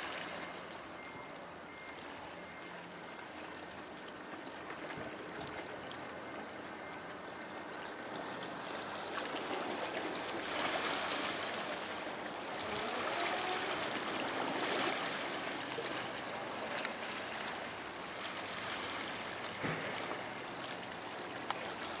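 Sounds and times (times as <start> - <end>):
water lapping at shore: 0.0 - 22.0.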